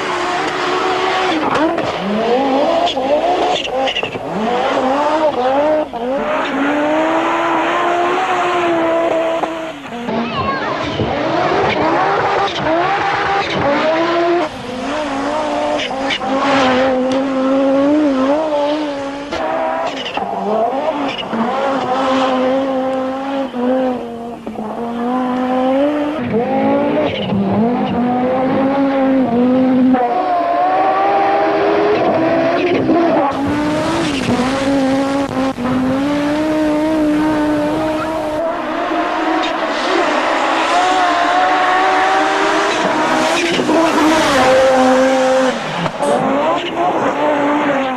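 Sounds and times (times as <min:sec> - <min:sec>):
car engine revving hard: 0:00.0 - 0:47.9.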